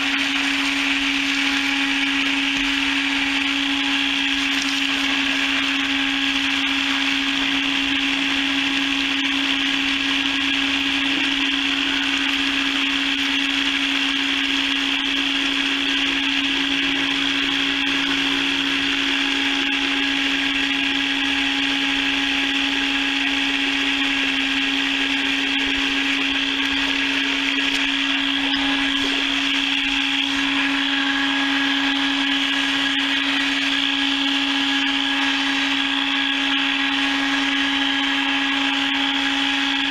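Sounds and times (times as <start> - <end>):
chicken plucker motor humming: 0.0 - 39.9.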